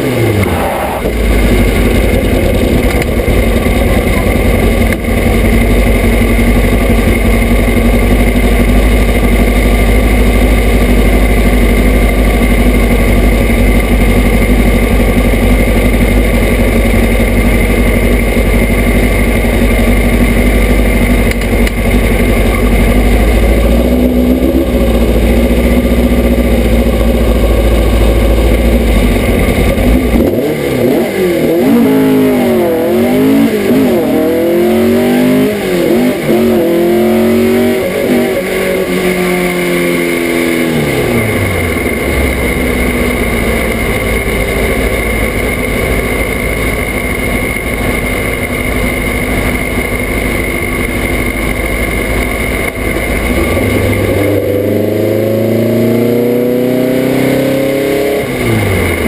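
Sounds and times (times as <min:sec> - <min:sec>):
racing engine revving: 0:00.0 - 0:59.0.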